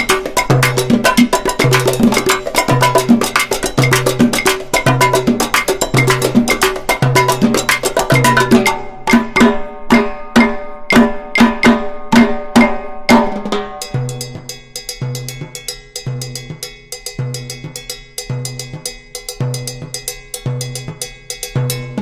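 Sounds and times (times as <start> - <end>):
pitched drum strikes: 0.0 - 22.0.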